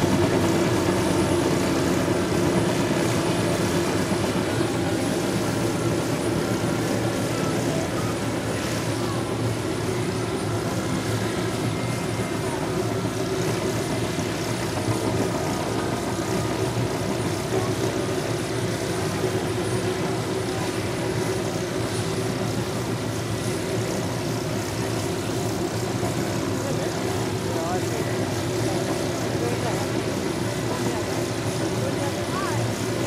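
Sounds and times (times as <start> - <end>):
helicopters running with rotors turning: 0.0 - 33.0.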